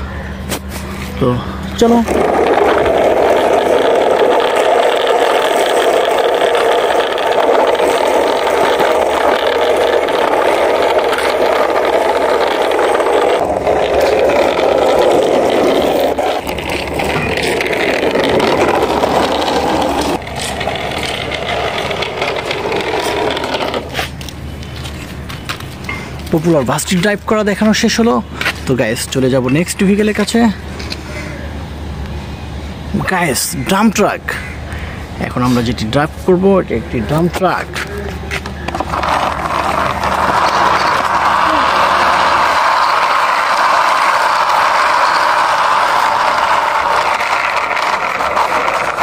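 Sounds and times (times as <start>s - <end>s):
toy wheels rattling on concrete: 1.8s - 31.4s, 35.2s - 49.0s.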